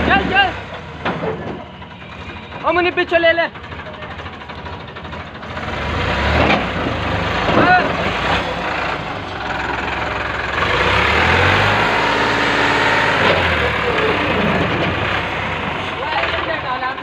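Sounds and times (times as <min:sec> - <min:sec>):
tractor diesel engine straining: 0:00.0 - 0:17.0.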